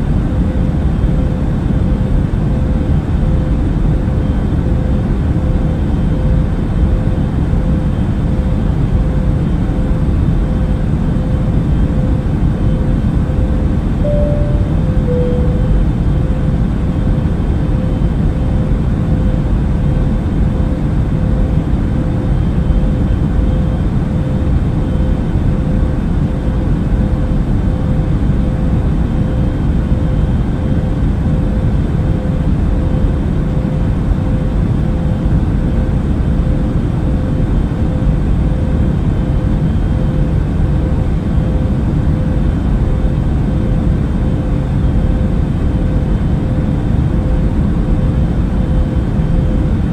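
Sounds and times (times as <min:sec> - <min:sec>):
airplane engines droning: 0:00.0 - 0:49.9.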